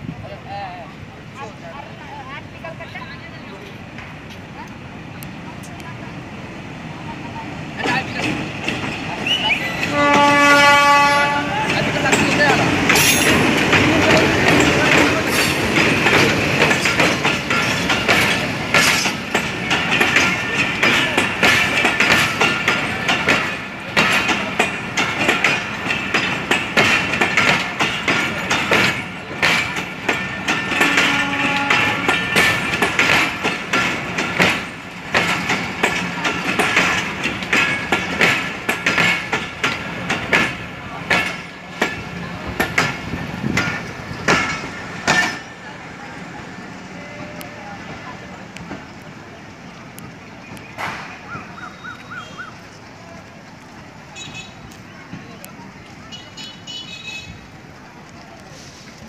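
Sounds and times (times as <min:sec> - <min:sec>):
train wheels clattering over rail joints: 0:07.5 - 0:59.0.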